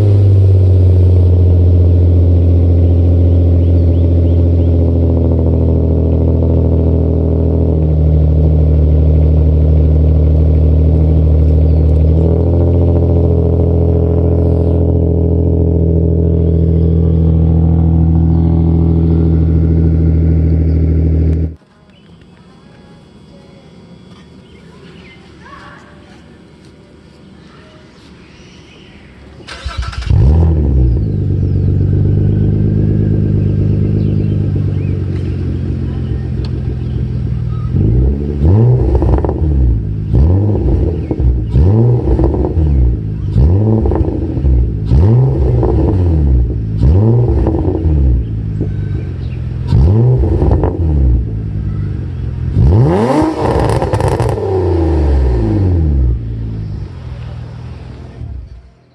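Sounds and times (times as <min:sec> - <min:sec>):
car engine idling and revving: 0:00.0 - 0:21.6, 0:29.4 - 0:58.9.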